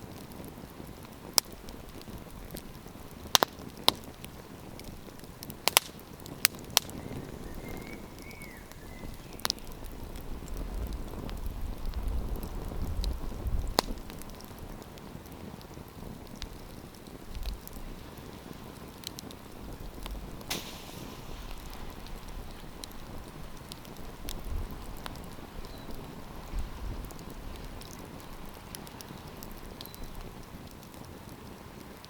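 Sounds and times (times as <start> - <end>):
wood campfire crackling: 0.0 - 32.0.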